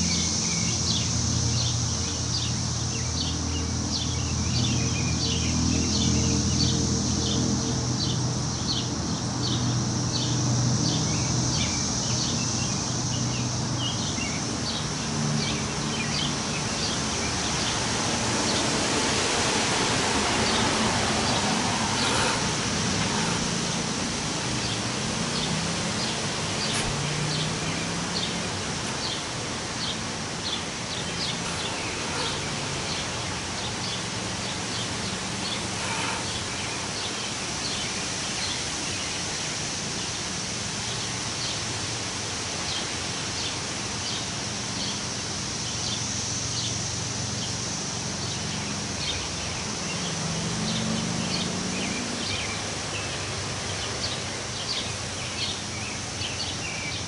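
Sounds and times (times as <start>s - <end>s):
small birds chirping: 0.0s - 18.8s, 19.6s - 41.8s, 48.2s - 57.0s
wind rustling leaves: 0.0s - 57.0s.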